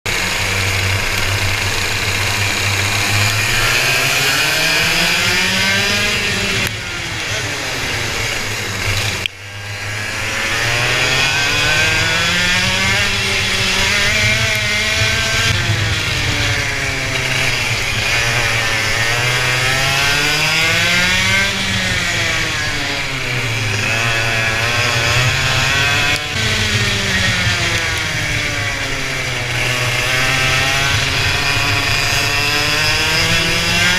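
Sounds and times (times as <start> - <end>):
racing engine at high revs: 0.1 - 33.9.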